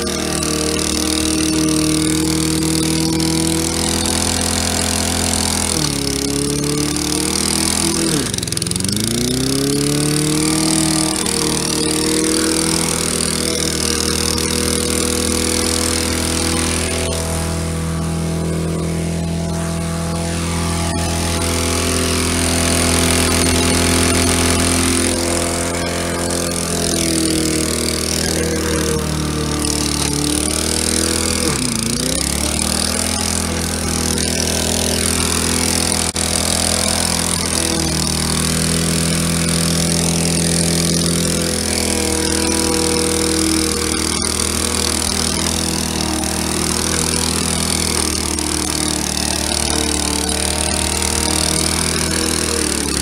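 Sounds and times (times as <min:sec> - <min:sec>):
lawnmower engine running: 0:00.0 - 0:53.0.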